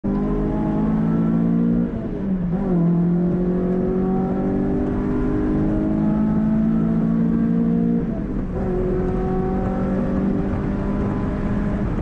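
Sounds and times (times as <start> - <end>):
car engine at full throttle: 0.0 - 12.0.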